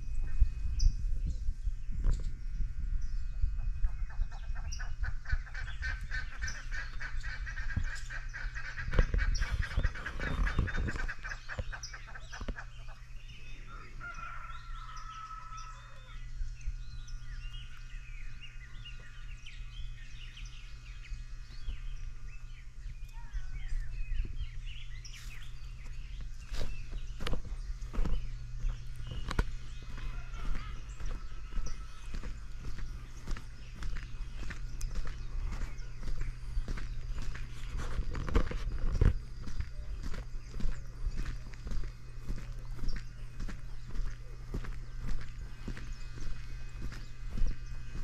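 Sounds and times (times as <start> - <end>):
low steady hum: 0.0 - 48.0
poultry calling: 4.1 - 16.4, 17.0 - 48.0.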